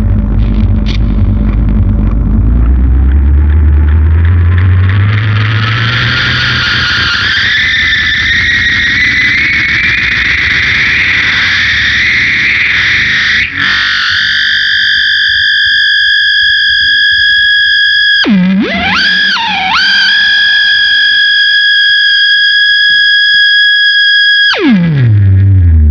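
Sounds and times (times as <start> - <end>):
distorted electric guitar: 0.0 - 25.9
howling guitar tone gliding upward: 1.2 - 25.9.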